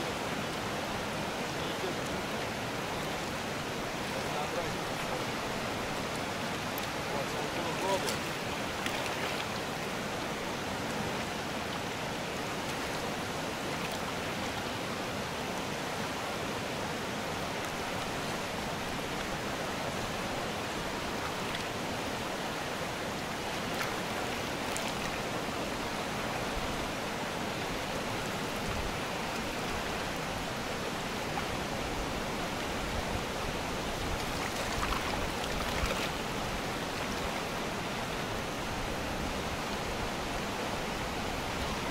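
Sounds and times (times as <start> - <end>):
river rushing over rapids and stones: 0.0 - 41.9.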